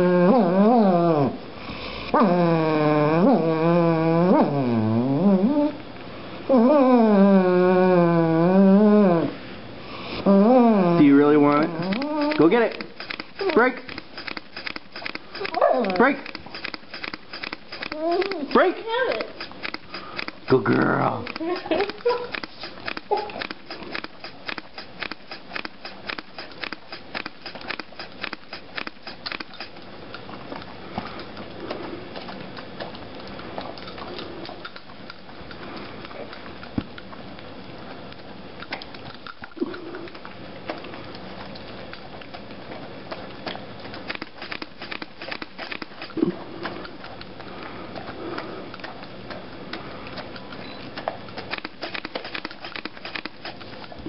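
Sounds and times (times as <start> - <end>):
dog chewing food: 9.8 - 54.0.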